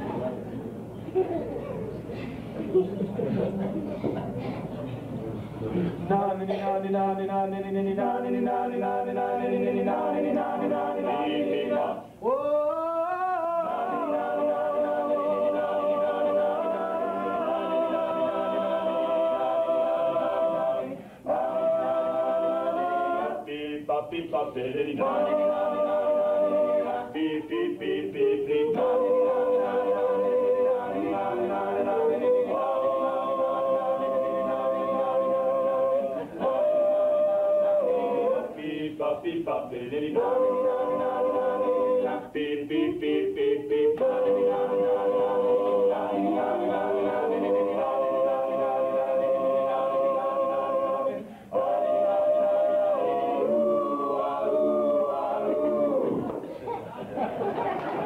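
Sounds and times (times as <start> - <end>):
male a cappella group singing: 6.1 - 56.4.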